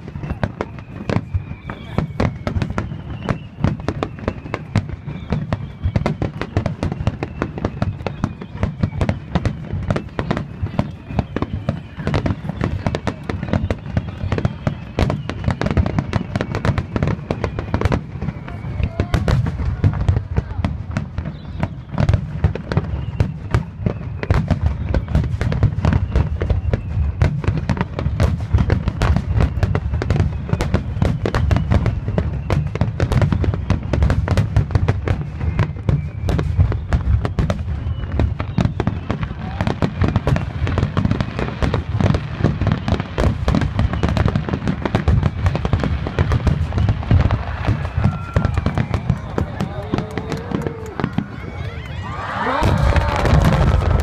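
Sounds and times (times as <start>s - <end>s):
fireworks cracks and bangs: 0.0s - 54.0s.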